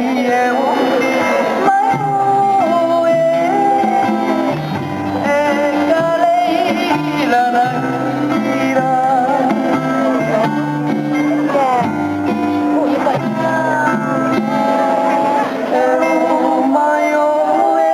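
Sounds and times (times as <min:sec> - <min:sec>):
guitar accompaniment: 0:00.0 - 0:17.9.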